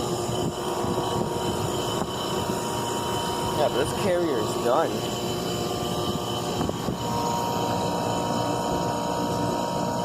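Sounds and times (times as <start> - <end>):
heat pump unit droning: 0.0 - 10.0
thin high whine: 0.0 - 10.0.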